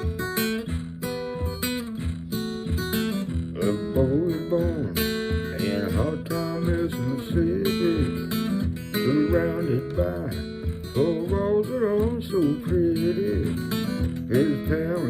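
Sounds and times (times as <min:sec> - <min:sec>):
acoustic guitar strumming: 0:00.0 - 0:15.0
sliding guitar melody: 0:00.0 - 0:15.0.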